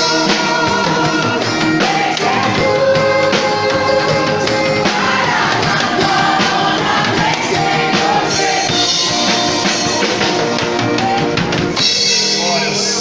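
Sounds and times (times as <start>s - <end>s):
rock music with singing: 0.0s - 13.0s.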